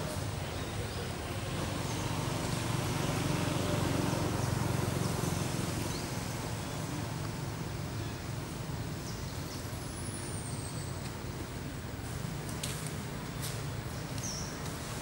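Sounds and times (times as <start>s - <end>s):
passing motor traffic rumble: 0.0s - 15.0s.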